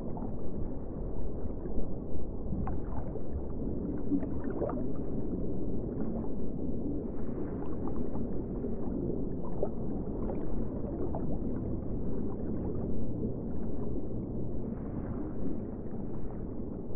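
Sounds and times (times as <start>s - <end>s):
muffled underwater rumble: 0.0s - 16.9s.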